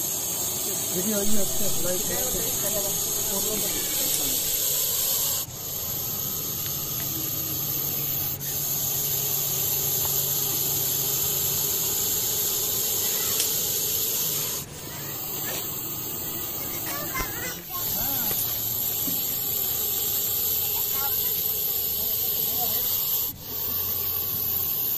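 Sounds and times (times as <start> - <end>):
snake hissing: 0.0 - 24.9.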